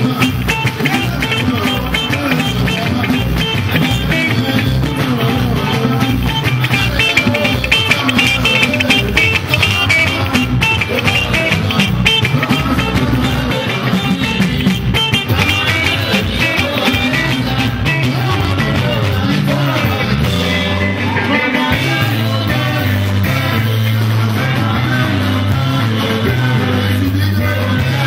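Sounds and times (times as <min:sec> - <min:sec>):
electric guitars: 0:00.0 - 0:28.0
man singing: 0:00.0 - 0:28.0
repeating bass line: 0:00.0 - 0:28.0.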